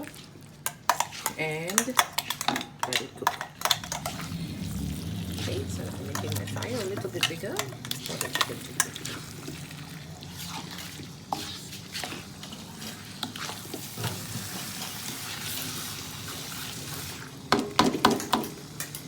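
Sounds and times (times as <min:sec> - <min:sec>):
stirring scrapes and clicks: 0:00.0 - 0:17.3
curry sizzling in a wok: 0:00.0 - 0:19.0.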